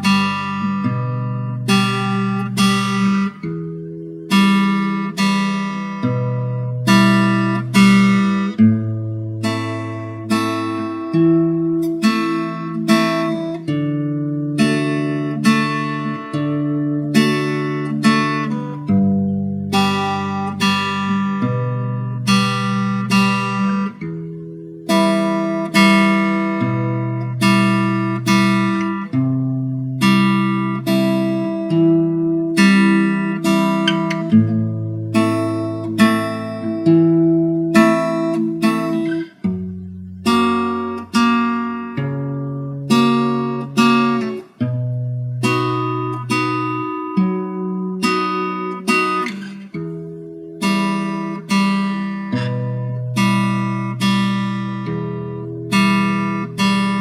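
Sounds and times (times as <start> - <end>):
acoustic guitar strummed chords: 0.0 - 57.0.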